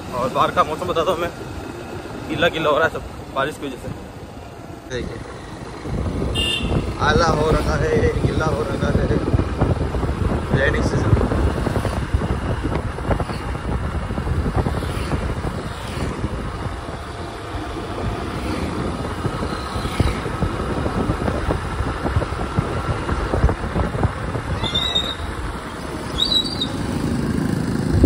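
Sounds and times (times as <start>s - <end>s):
road noise: 0.0s - 28.0s
wind buffeting microphone: 2.9s - 28.0s
motorcycle engine: 4.4s - 28.0s.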